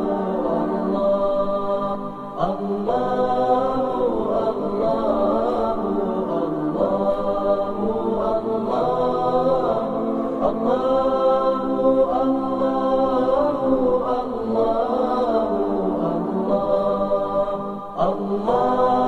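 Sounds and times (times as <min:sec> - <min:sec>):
chanted vocal with sliding notes: 0:00.0 - 0:19.0.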